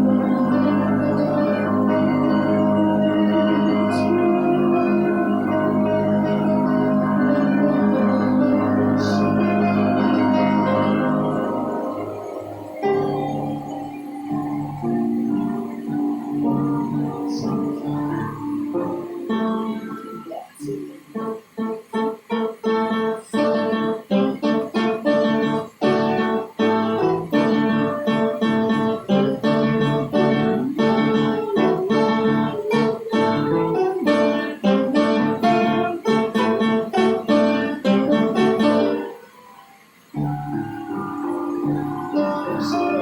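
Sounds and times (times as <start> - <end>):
pitched tone: 0.0 - 22.0, 23.1 - 43.0
piano quick notes: 0.0 - 43.0.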